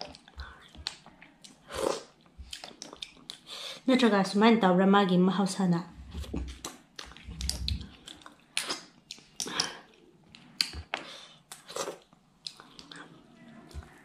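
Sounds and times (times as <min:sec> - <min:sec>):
chewing and mouth smacks: 0:00.0 - 0:03.5, 0:06.2 - 0:14.0.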